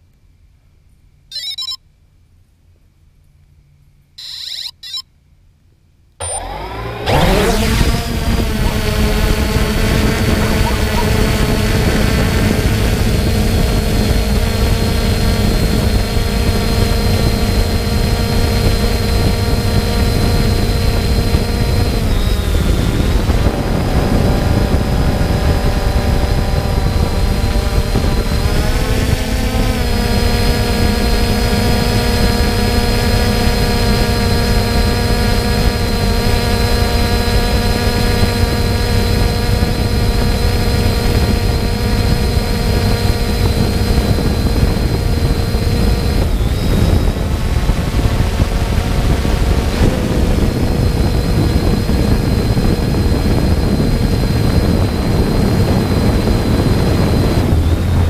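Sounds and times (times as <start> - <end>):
drone motors whining: 1.3 - 1.8, 4.2 - 5.0, 6.2 - 58.0.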